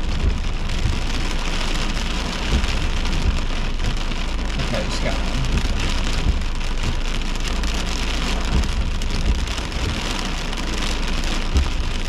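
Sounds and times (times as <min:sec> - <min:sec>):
heavy rain on a car: 0:00.0 - 0:12.0
short low thumps: 0:00.0 - 0:12.0.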